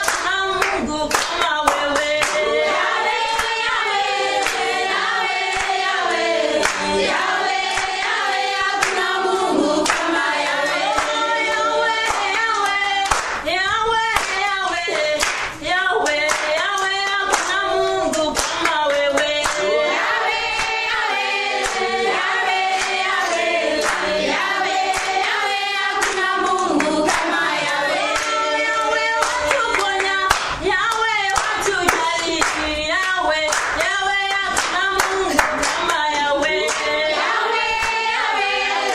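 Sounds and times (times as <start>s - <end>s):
group singing together: 0.0s - 38.9s
rhythmic hand clapping: 0.0s - 38.9s.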